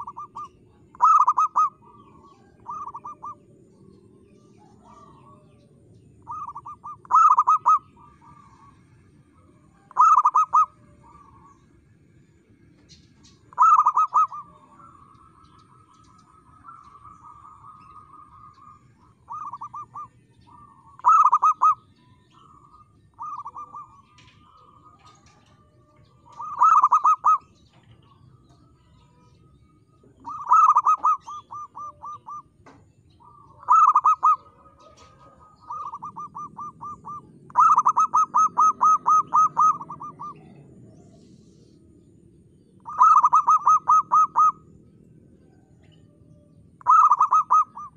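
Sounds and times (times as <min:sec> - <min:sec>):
dove cooing: 0:00.0 - 0:11.8, 0:12.4 - 0:47.9.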